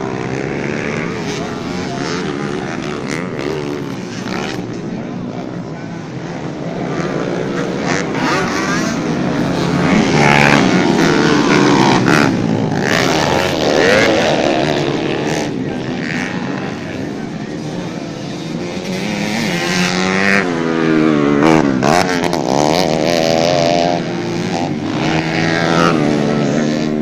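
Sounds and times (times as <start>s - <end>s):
motocross bikes revving: 0.0s - 27.0s.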